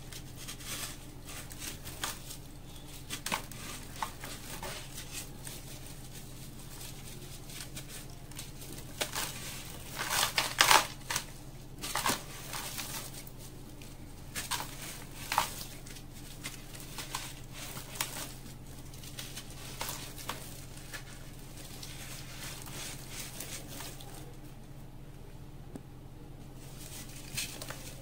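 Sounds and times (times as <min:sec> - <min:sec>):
gritty crunches of mix: 0:00.0 - 0:24.6.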